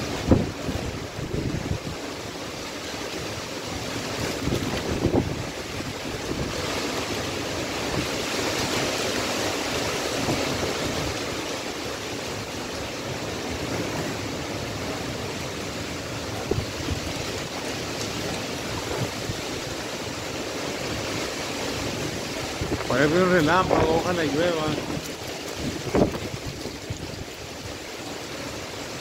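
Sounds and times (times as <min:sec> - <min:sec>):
wind buffeting microphone: 0:00.0 - 0:02.1, 0:03.0 - 0:29.0
strong wind rushing through trees: 0:00.0 - 0:29.0.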